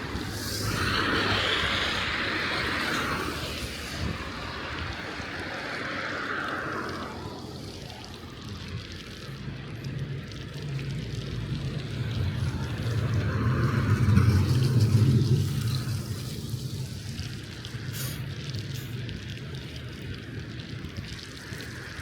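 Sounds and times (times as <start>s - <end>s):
tyres hissing on snowy road: 0.0s - 22.0s
vehicle engine hum: 0.0s - 22.0s.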